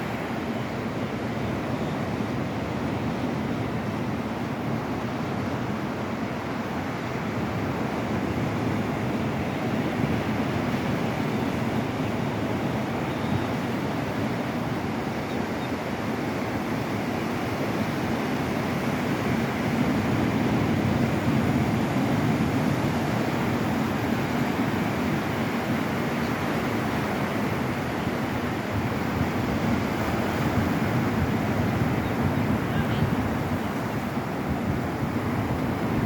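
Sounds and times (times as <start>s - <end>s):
ocean surf breaking on beach: 0.0s - 36.0s.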